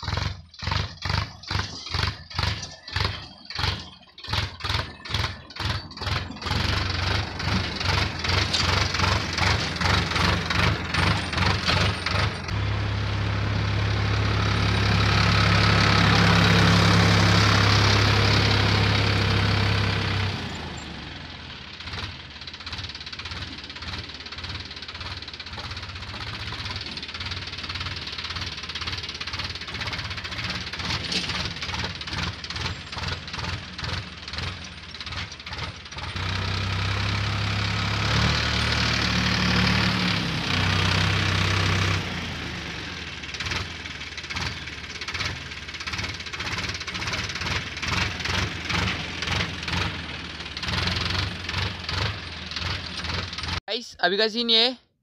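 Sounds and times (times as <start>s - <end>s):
tractor diesel engine under load: 0.0s - 54.8s.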